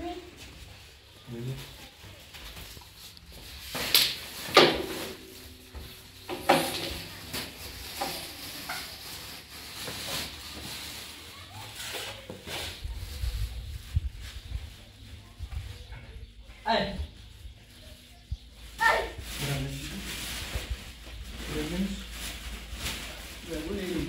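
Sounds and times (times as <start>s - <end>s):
plastic bag rustling: 0.0s - 16.2s, 17.0s - 24.0s.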